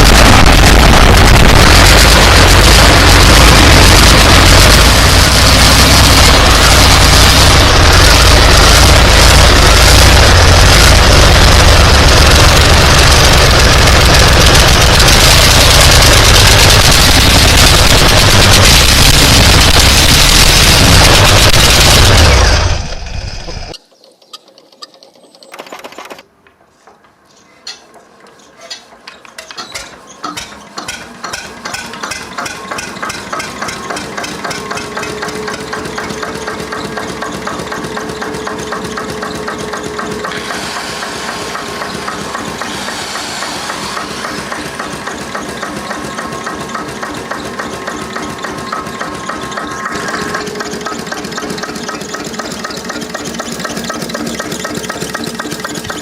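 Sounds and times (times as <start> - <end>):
old engine starting and running: 0.0 - 26.3, 29.1 - 56.0.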